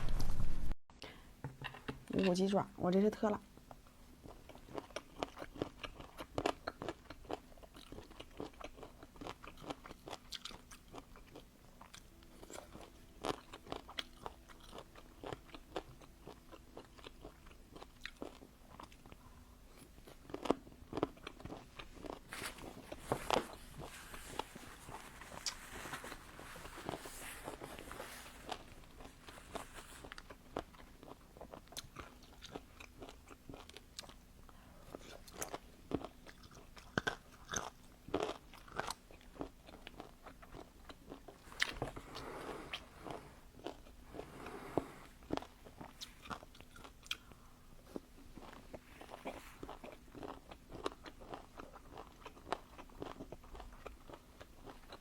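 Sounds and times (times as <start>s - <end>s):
crunchy food being chewed: 3.6s - 55.0s.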